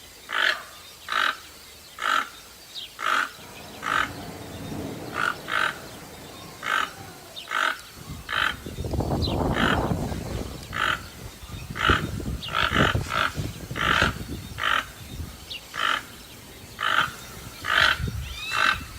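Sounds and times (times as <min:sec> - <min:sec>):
toucan croaking calls: 0:00.0 - 0:18.9.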